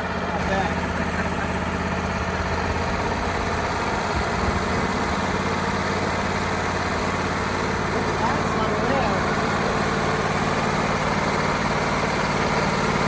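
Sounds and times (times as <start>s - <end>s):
sawmill engine humming: 0.0s - 13.0s.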